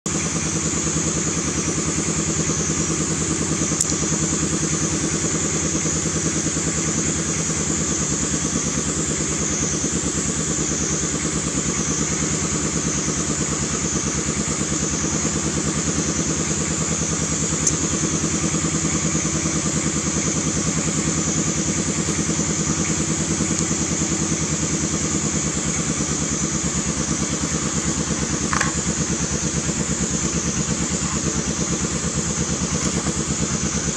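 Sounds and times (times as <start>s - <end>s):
small engine idling: 0.0s - 33.9s.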